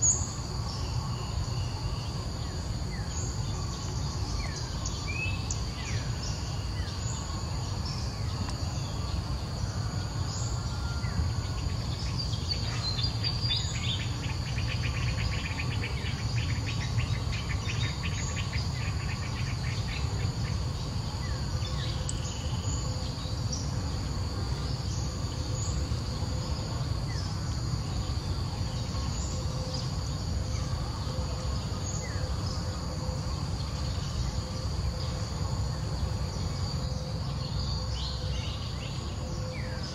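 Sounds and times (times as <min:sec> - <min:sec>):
insects buzzing drone: 0:00.0 - 0:39.9.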